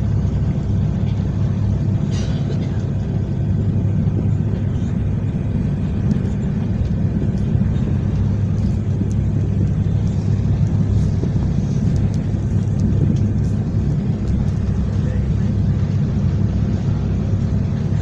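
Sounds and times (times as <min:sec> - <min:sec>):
motorboat engine rumble: 0:00.0 - 0:18.0
water rushing along hull: 0:00.0 - 0:18.0.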